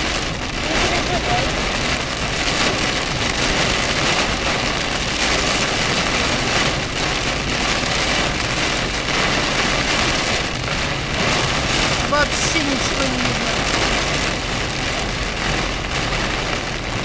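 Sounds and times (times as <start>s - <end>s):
heavy rain on car roof: 0.0s - 17.0s
road noise: 0.0s - 17.0s.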